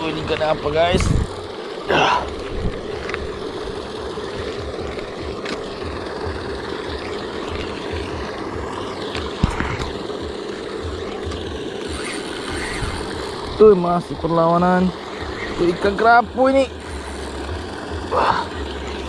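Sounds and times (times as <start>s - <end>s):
aerator motor hum: 0.0s - 19.0s
churning water: 0.0s - 19.0s.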